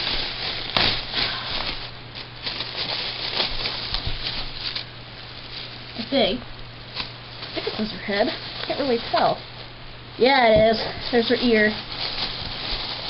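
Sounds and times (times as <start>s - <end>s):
plastic bags crinkling: 0.0s - 9.8s, 10.8s - 13.0s.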